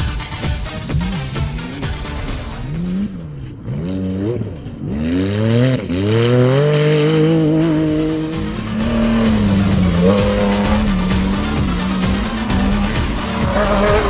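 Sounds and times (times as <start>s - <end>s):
race vehicle engines revving: 0.0s - 14.0s.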